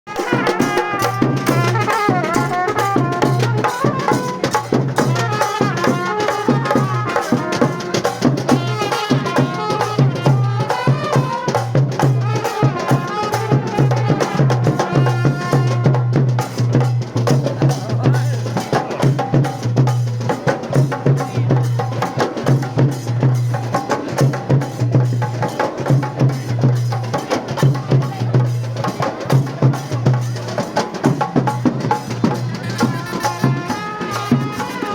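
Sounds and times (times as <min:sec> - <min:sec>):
rapid drum strokes: 0:00.1 - 0:34.9.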